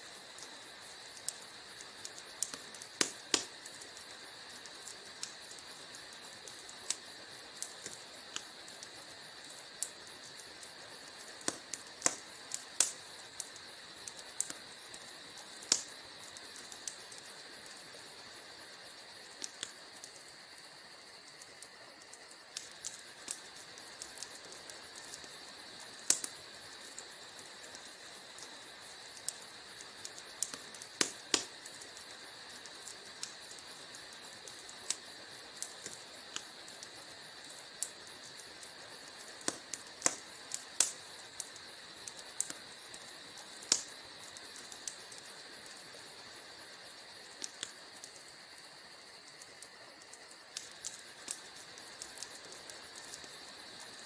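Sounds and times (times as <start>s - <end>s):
wood fire popping and snapping: 0.0s - 54.0s.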